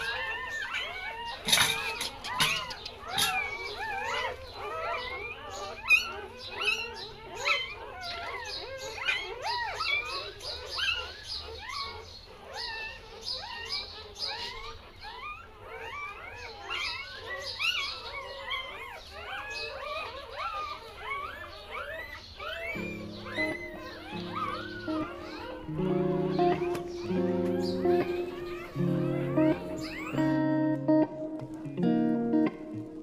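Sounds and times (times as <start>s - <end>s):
puppies crying and whimpering: 0.0s - 33.0s.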